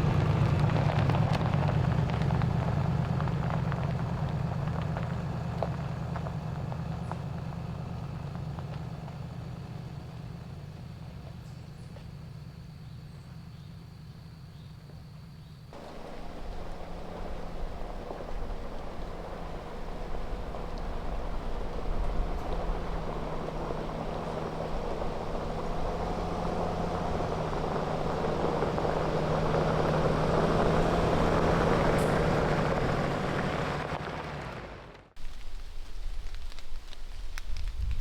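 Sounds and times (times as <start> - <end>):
engine-like drone: 0.0 - 13.4, 15.8 - 38.0.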